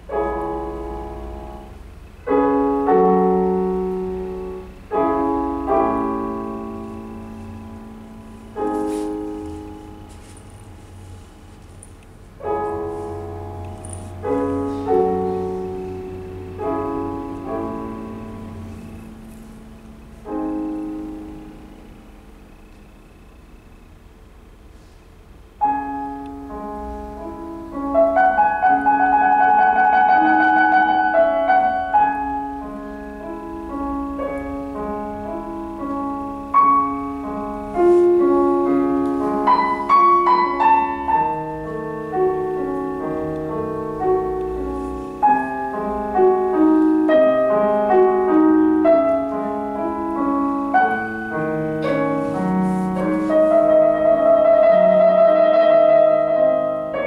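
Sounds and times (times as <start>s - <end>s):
digital piano playing chords: 0.0s - 57.0s.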